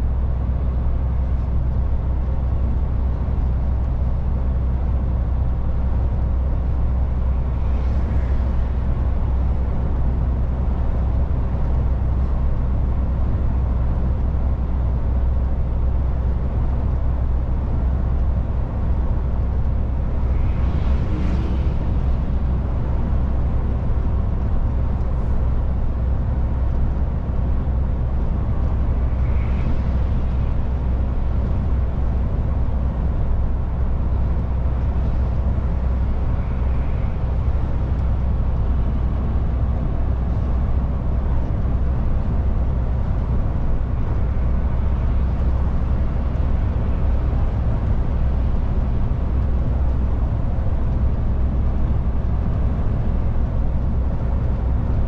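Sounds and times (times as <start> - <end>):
truck engine and road drone: 0.0 - 55.0.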